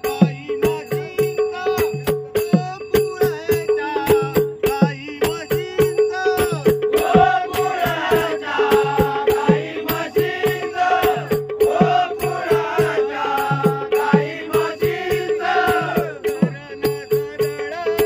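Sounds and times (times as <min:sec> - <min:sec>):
drum beat: 0:00.0 - 0:18.0
elderly man singing: 0:00.0 - 0:18.0
hand cymbals: 0:00.0 - 0:18.0.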